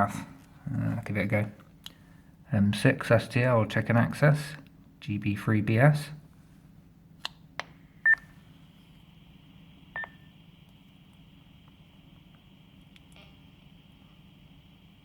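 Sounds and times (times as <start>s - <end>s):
faint steady radio hiss: 0.0s - 15.0s.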